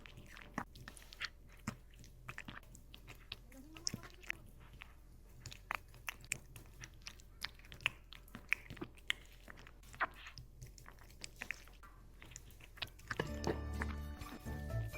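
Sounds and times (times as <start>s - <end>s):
cat chewing crunchy greens: 0.0s - 14.9s.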